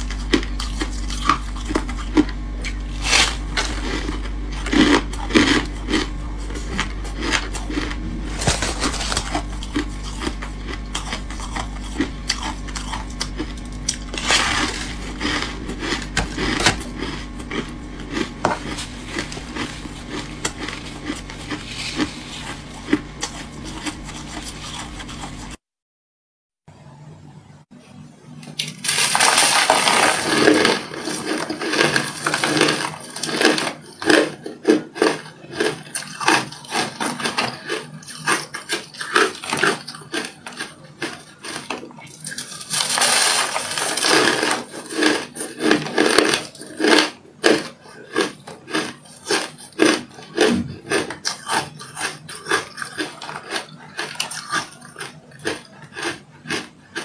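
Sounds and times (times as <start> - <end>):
frost being chewed crunching: 0.0 - 25.6, 28.5 - 57.0.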